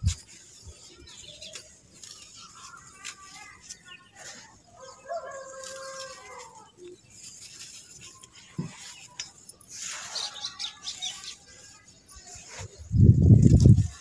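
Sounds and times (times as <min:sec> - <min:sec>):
grit pattering onto dirt: 0:00.0 - 0:11.4.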